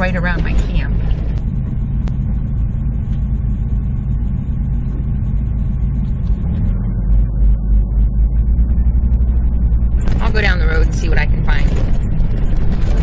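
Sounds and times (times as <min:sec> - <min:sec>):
vehicle rumbling on dirt road: 0:00.0 - 0:13.0.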